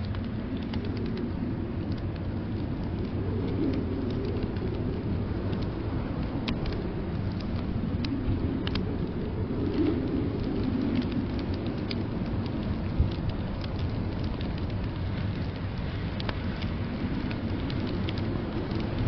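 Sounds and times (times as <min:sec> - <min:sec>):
blizzard wind rumble: 0:00.0 - 0:19.0
wood fire crackling and popping: 0:00.0 - 0:19.0.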